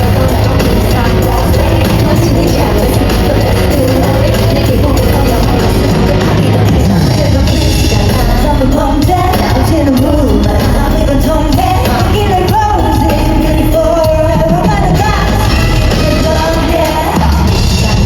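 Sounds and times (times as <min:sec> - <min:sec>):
bass and drums: 0:00.0 - 0:18.0
woman singing: 0:00.0 - 0:18.0.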